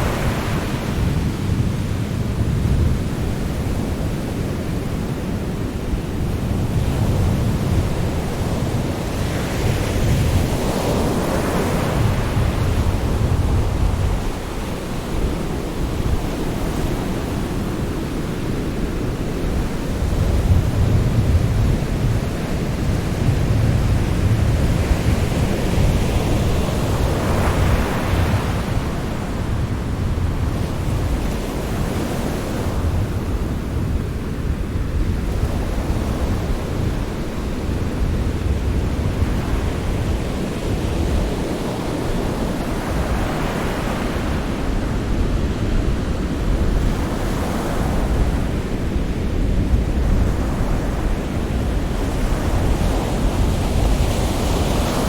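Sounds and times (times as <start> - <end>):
sea surf waves: 3.2 - 55.0.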